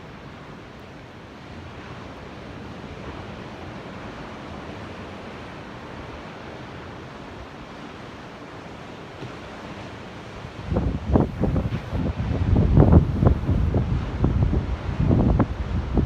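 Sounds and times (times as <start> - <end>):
ocean surf waves: 0.0 - 16.0.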